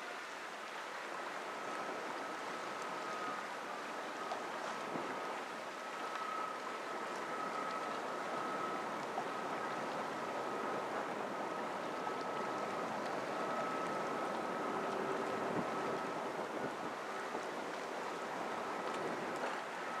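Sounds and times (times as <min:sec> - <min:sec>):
faint high whine: 0:00.0 - 0:20.0
river water rushing: 0:00.0 - 0:20.0.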